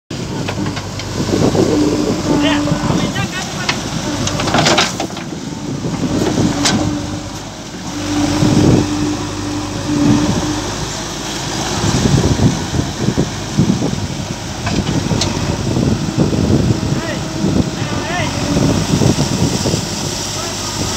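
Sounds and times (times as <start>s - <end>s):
diesel engine running: 0.1s - 20.9s
water rushing and splashing: 0.1s - 20.9s.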